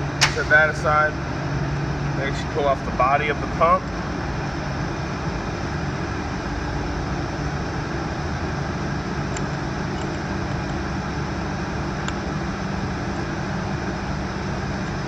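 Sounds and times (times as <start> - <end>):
ventilation hum and hiss: 0.0 - 15.0.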